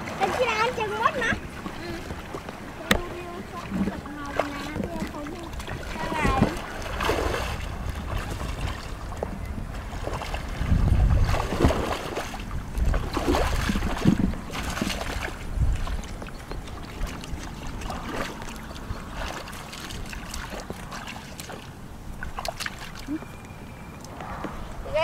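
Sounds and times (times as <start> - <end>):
muddy water sloshing and splashing: 0.0 - 25.0
wind rumbling on microphone: 0.0 - 25.0.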